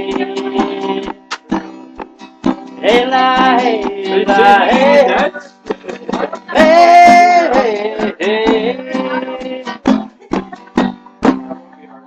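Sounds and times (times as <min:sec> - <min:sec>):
man singing: 0:00.0 - 0:01.6, 0:02.7 - 0:12.0
acoustic guitar strumming: 0:00.0 - 0:12.0.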